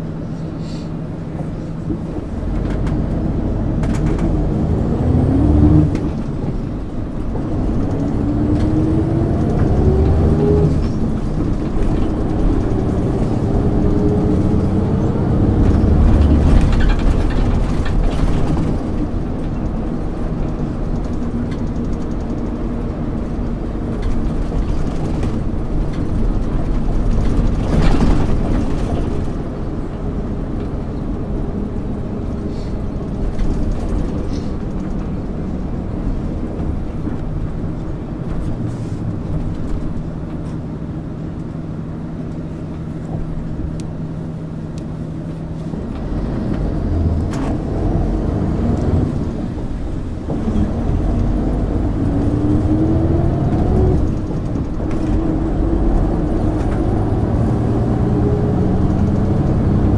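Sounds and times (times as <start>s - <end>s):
bus engine accelerating: 0.0s - 59.9s
road noise: 0.0s - 59.9s.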